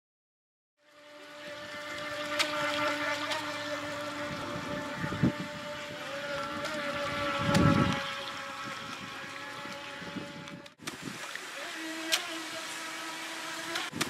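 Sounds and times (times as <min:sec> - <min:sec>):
rc speedboat motor whining: 0:00.8 - 0:14.0.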